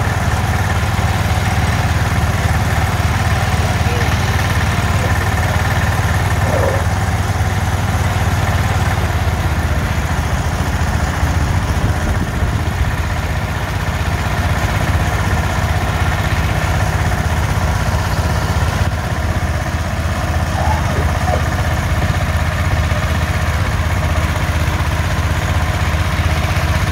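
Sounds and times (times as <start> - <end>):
garden tractor engines under load: 0.0 - 26.9.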